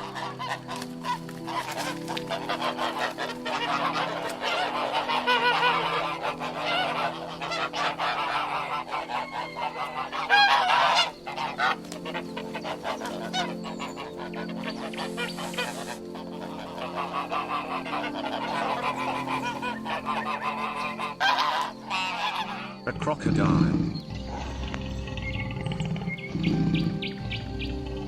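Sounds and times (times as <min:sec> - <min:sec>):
geese honking: 0:00.0 - 0:28.0
soft background music: 0:00.0 - 0:28.0.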